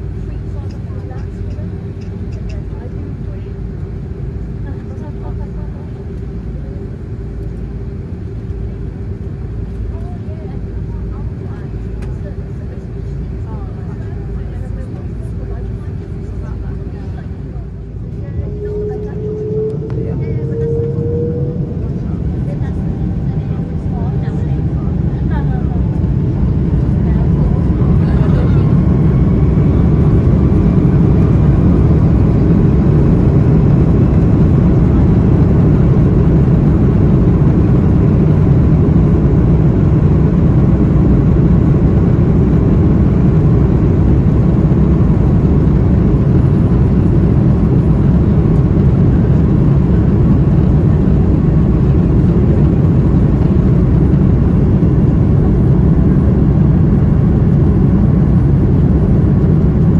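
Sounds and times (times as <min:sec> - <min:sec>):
airliner rolling on taxiway: 0:00.0 - 0:59.9
faint steady whine: 0:00.0 - 0:59.9
jet engines low rumble: 0:00.0 - 0:59.9.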